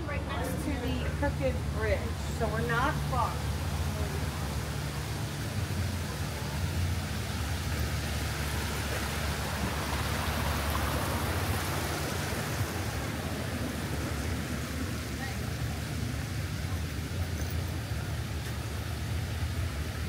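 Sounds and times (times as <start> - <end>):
steady rushing noise: 0.0 - 17.2.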